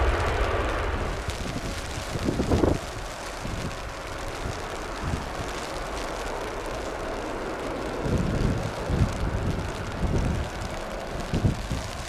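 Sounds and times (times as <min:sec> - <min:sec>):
jet engines roaring: 0:00.0 - 0:12.0
wind gusts on microphone: 0:00.0 - 0:12.0.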